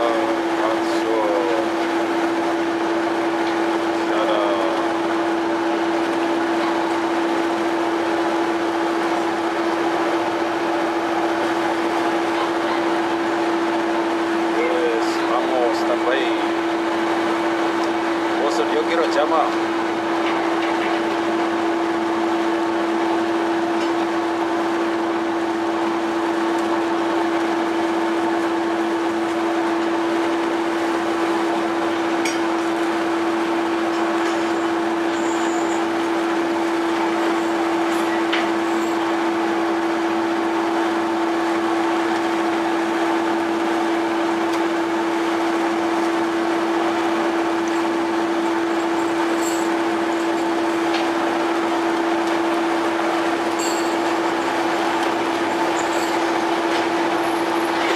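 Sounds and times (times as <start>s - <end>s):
boat machinery droning: 0.0s - 57.9s.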